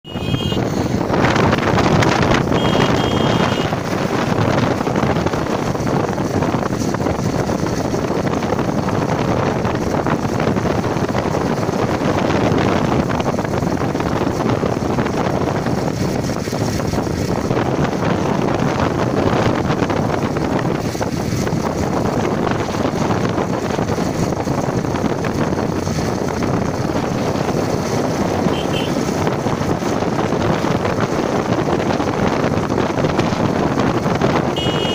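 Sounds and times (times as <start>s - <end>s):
road and engine noise: 0.0s - 34.9s
wind rush on microphone: 0.0s - 34.9s.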